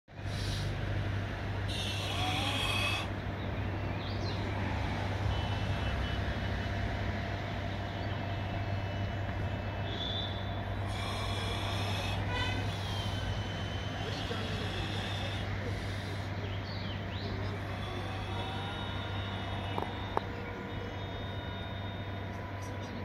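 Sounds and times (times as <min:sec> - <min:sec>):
low engine hum: 0:00.1 - 0:23.0.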